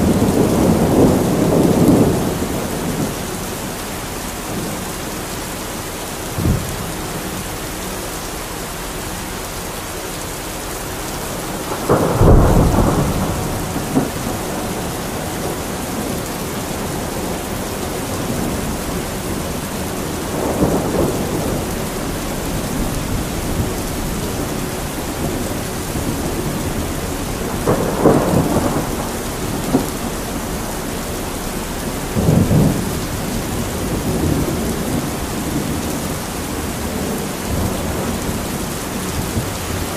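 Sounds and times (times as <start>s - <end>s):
thunder: 0.0s - 3.4s, 6.3s - 7.3s, 11.3s - 39.9s
steady rain: 0.0s - 39.9s.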